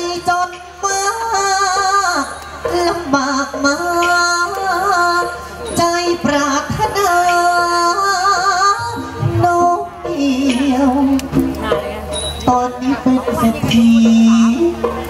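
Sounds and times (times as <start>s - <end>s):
percussion strikes: 0.0s - 15.0s
person singing with heavy vibrato: 0.0s - 15.0s.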